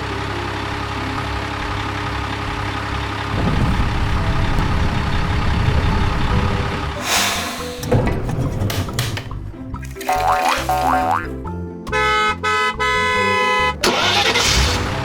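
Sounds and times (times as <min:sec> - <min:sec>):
heavy vehicle engine running: 0:00.0 - 0:09.1, 0:12.0 - 0:15.0.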